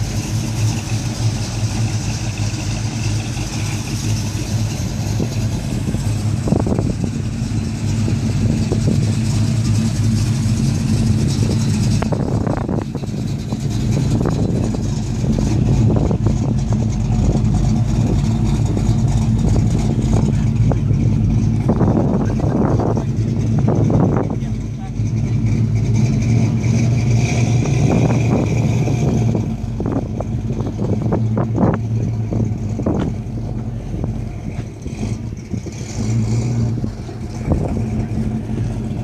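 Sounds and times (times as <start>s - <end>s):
car engine rolling past: 0.0s - 39.0s.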